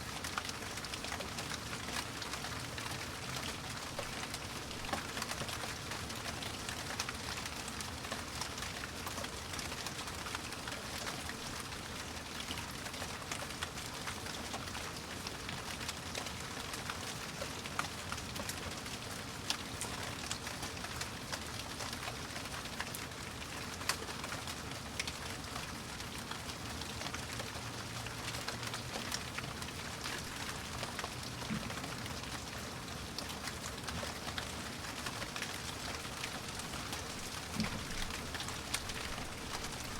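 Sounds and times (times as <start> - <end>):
raindrops ticking on surface: 0.0 - 39.9
steady rain hiss: 0.0 - 39.9.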